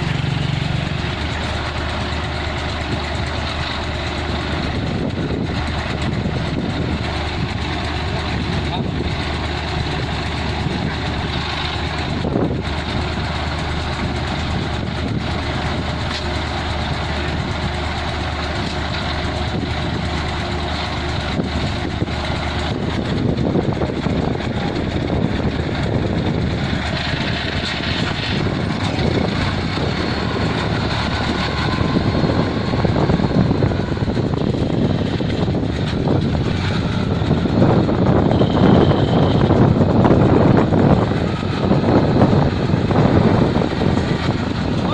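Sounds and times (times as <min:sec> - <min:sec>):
harvester engine running: 0:00.0 - 0:44.9.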